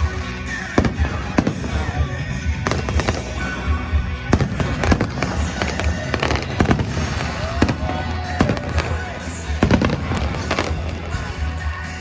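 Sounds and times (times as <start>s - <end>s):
continuous rumble: 0.0s - 12.0s
fireworks bangs and cracks: 0.0s - 12.0s
music playing: 0.0s - 12.0s.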